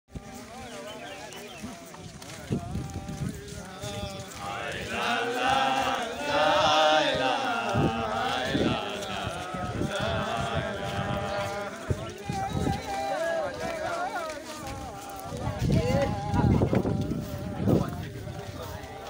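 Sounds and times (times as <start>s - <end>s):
men chanting together: 2.5s - 19.0s.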